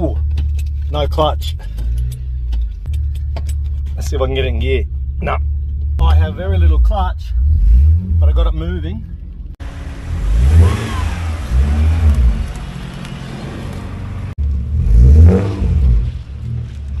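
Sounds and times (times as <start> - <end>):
car engine revving: 1.5 - 17.0.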